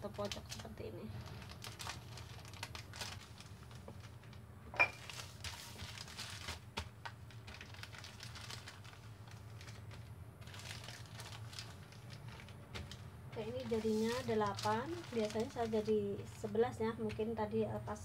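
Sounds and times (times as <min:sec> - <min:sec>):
plastic bags crinkling: 0:00.0 - 0:17.2
low steady hum: 0:00.0 - 0:18.0.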